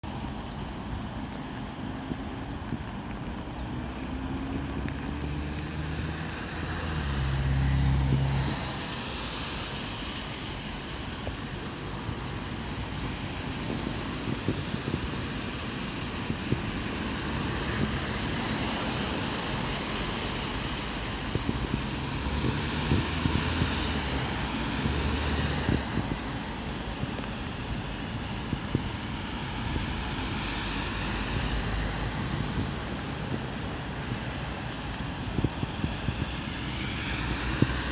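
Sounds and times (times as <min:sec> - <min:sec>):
tyres hissing on wet road: 0:00.1 - 0:37.9.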